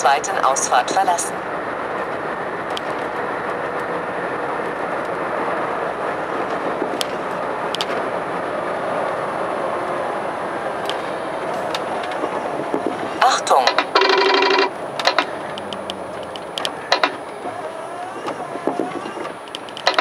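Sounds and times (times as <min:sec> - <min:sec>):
truck engine and tyre noise: 0:00.0 - 0:20.0.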